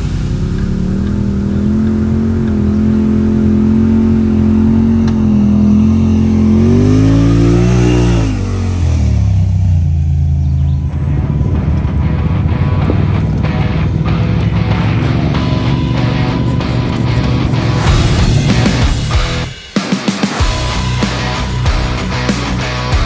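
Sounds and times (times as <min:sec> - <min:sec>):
utv engine revving under load: 0:00.0 - 0:19.5.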